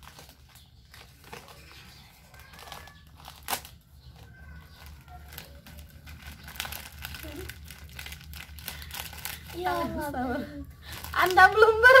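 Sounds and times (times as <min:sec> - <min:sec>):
plastic snack packet crinkling: 0:00.0 - 0:12.0.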